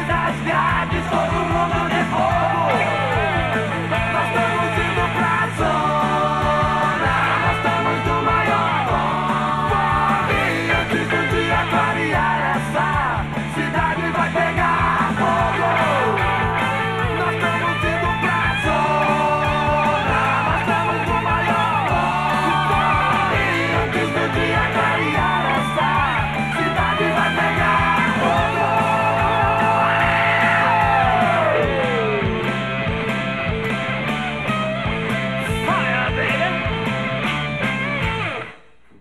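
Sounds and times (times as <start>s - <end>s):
instrumental rock band playing: 0.0s - 38.7s.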